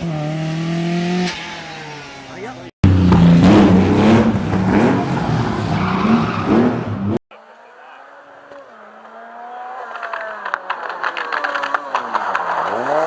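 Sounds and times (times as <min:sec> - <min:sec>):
distant car engine: 0:00.0 - 0:13.0
rally car engine revving: 0:00.0 - 0:13.0.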